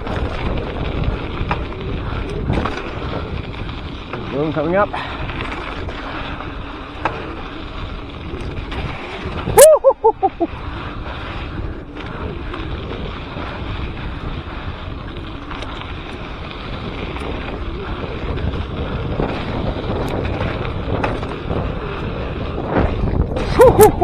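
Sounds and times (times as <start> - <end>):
bike knocking over bumps: 0.0 - 9.6, 11.0 - 24.0
wind buffeting microphone: 0.0 - 24.0.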